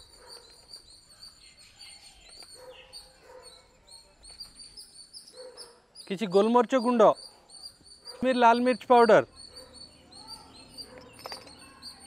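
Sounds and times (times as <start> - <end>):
fainter bird calls: 0.0 - 12.0
small birds chirping: 0.0 - 12.0.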